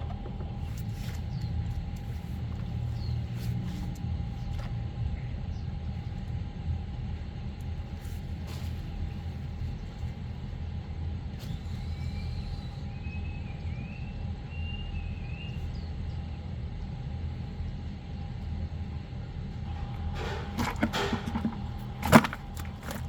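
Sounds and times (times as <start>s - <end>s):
faint steady hum: 0.0s - 23.0s
low mechanical rumble: 0.0s - 23.0s.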